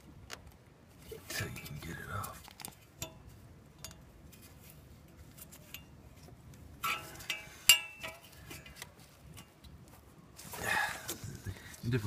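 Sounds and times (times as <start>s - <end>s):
light clicks and knocks of parts: 0.0s - 11.9s.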